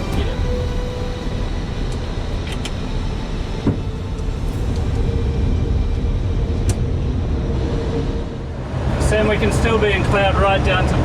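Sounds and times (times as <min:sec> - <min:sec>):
airflow and engine rumble: 0:00.0 - 0:11.0.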